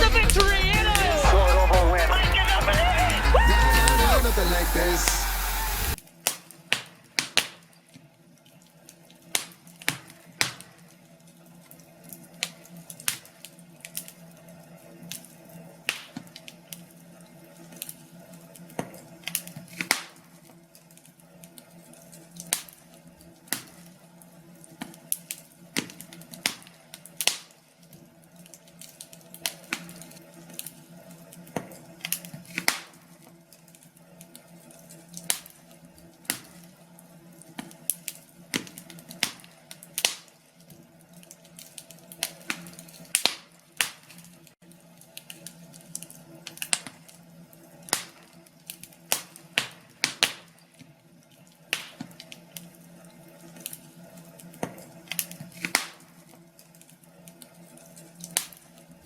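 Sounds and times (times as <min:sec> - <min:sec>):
wood fire crackling: 0:00.0 - 0:07.6, 0:08.5 - 0:59.0.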